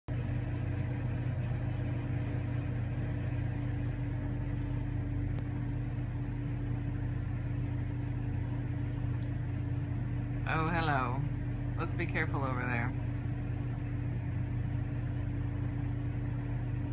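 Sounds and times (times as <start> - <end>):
motor humming: 0.1 - 16.9.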